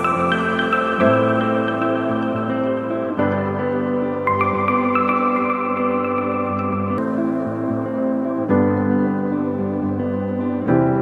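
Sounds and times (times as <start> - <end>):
calm ambient music with sustained chords: 0.0 - 11.0.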